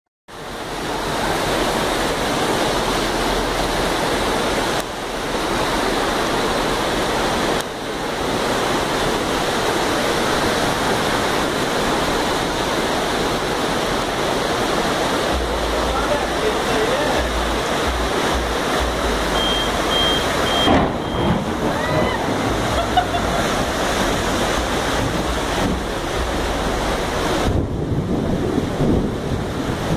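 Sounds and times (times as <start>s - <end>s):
floodwater rushing: 0.3s - 29.9s
heavy rain: 0.3s - 29.9s.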